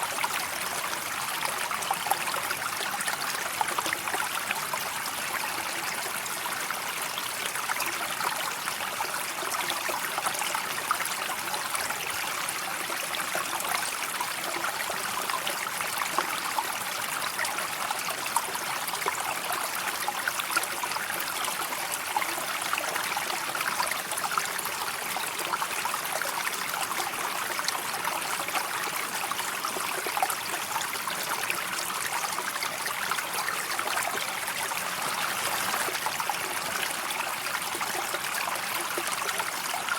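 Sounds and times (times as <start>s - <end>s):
calm river flowing: 0.0s - 39.9s.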